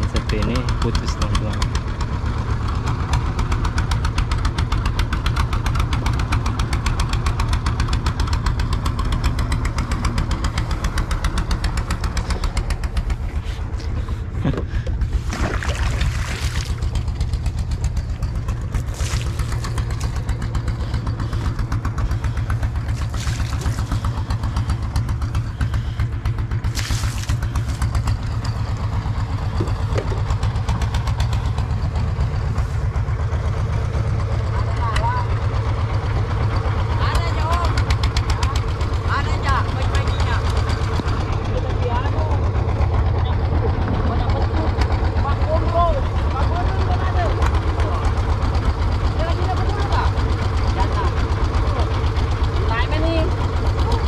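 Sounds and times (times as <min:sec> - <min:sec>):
boat engine throbbing: 0:00.0 - 0:54.0.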